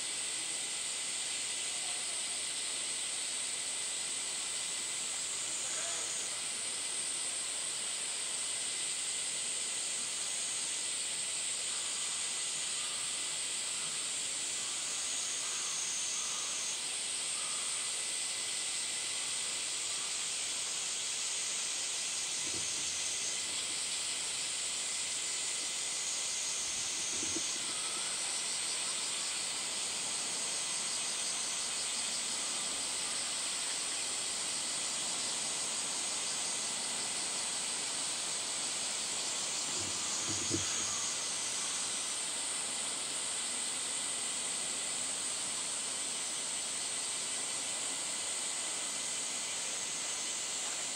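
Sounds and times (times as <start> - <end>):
cicada chorus: 0.0 - 50.9.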